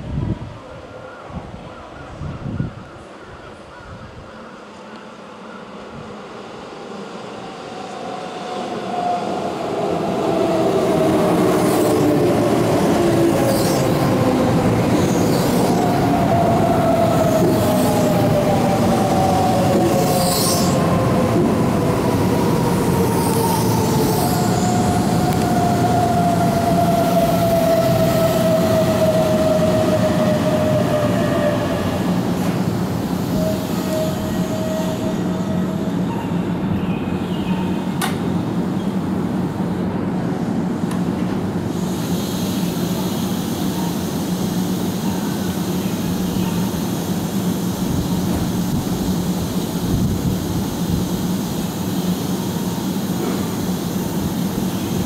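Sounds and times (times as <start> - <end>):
train low hum and rumble: 0.0 - 55.0
electric train whine: 4.4 - 55.0.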